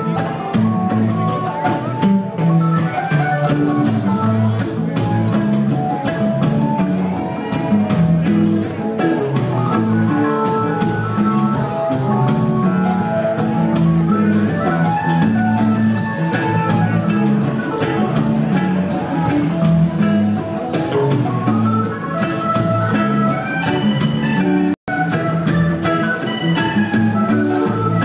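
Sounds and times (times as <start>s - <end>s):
bass: 0.0s - 28.0s
drum kit beat: 0.0s - 28.0s
guitar: 0.0s - 28.0s.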